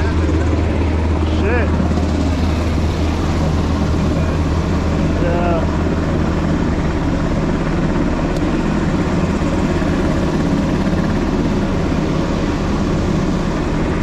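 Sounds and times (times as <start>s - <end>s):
aircraft engine drone: 0.0s - 14.0s.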